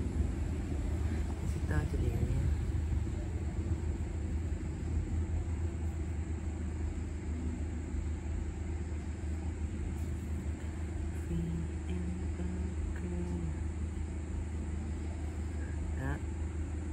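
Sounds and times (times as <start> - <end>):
low background rumble: 0.0 - 16.9.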